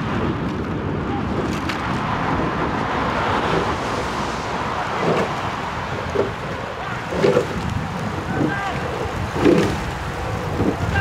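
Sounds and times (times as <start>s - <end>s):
rushing noise: 0.0s - 11.0s
wind rumble on microphone: 0.0s - 11.0s.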